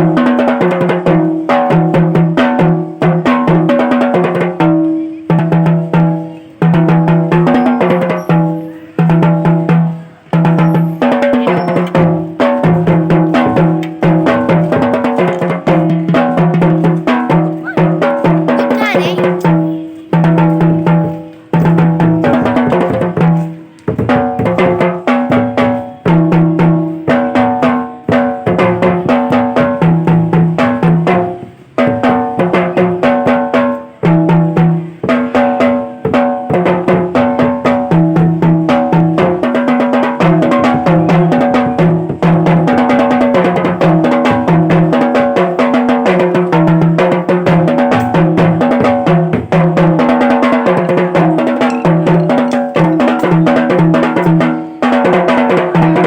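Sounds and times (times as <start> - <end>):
drums playing fast rhythms: 0.0 - 56.0.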